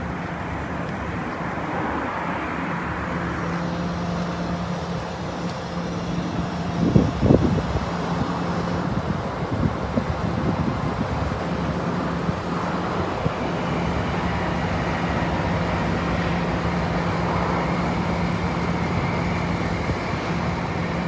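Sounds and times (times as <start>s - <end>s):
excavator engine humming: 0.0s - 21.0s.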